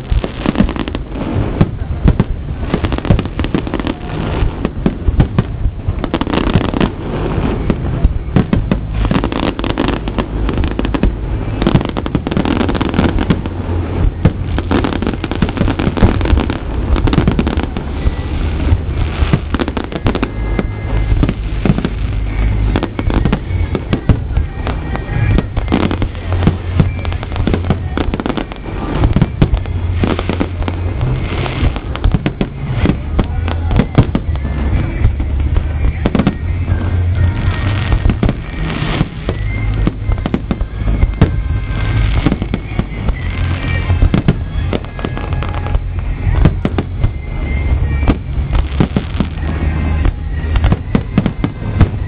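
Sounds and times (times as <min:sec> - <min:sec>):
fireworks bangs and crackles: 0:00.0 - 0:52.0
heavy low rumble: 0:00.0 - 0:52.0.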